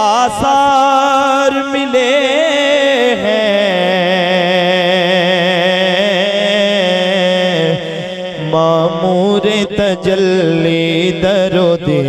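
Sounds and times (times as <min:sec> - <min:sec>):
man singing through microphone: 0:00.0 - 0:12.0.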